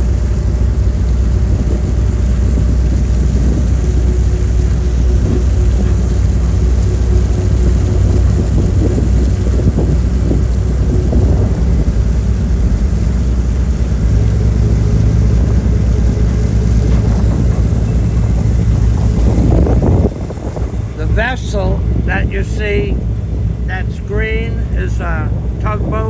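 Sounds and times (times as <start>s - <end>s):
ship diesel engines rumbling: 0.0s - 26.0s.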